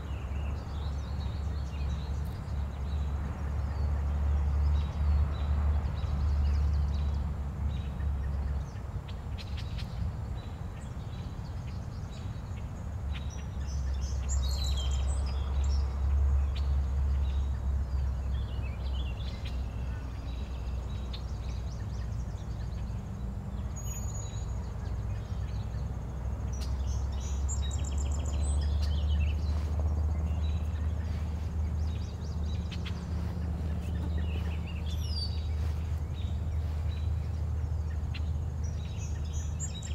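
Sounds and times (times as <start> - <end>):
birds chirping: 0.0 - 39.9
low steady rumble: 0.0 - 39.9.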